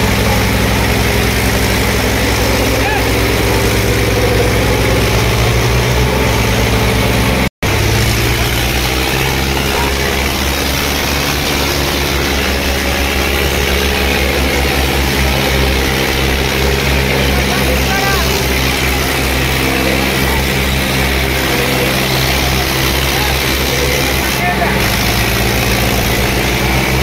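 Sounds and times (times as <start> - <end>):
tractor diesel engines running: 0.0 - 27.0.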